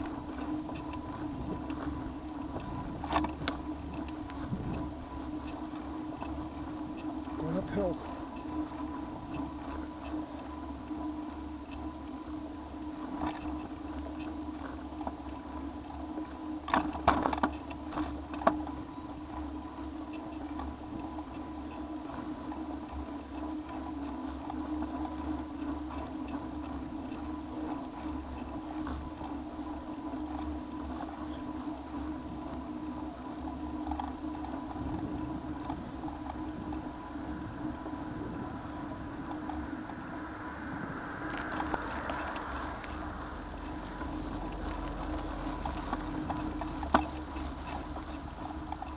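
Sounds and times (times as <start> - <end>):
bicycle humming with light rattling: 0.0 - 48.9.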